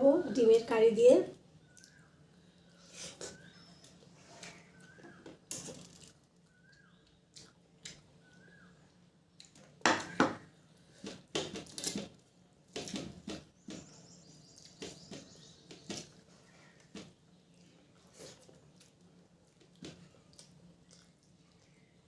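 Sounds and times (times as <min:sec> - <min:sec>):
wet chewing and mixing food: 0:01.5 - 0:22.0.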